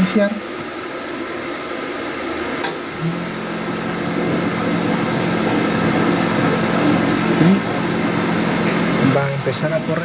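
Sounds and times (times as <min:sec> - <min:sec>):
pump humming: 0:00.7 - 0:10.0.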